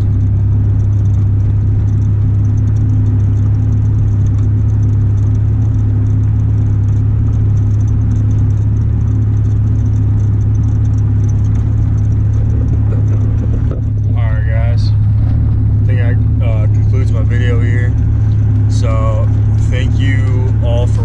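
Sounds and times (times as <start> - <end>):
loud exhaust drone: 0.0 - 21.0.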